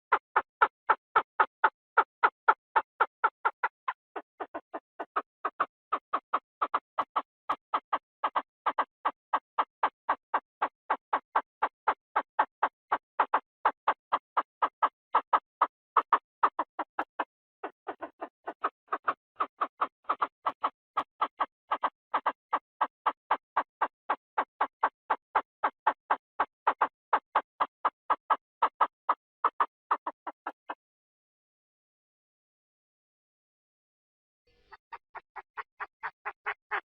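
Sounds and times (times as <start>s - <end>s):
bird calling in clipped notes: 0.0s - 30.8s, 34.5s - 36.9s.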